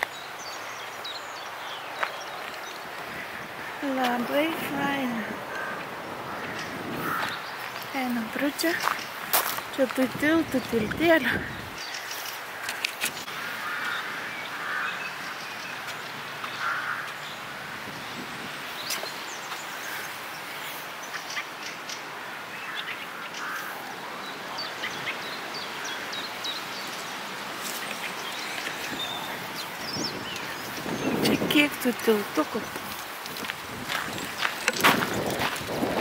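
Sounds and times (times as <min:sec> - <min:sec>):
birds calling: 0:00.0 - 0:36.0
steady outdoor hiss: 0:00.0 - 0:36.0.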